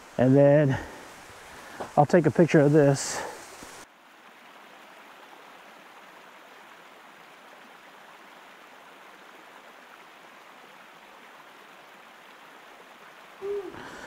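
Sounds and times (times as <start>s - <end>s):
faint waterfall rushing: 0.0s - 14.0s.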